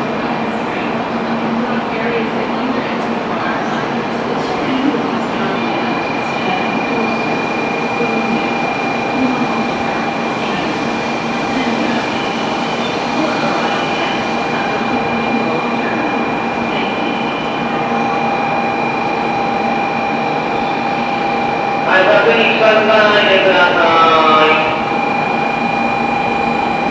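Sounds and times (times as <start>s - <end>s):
murmur of waiting passengers: 0.0s - 26.9s
approaching train low tone: 4.6s - 26.9s
steady high-pitched tone: 4.6s - 26.9s.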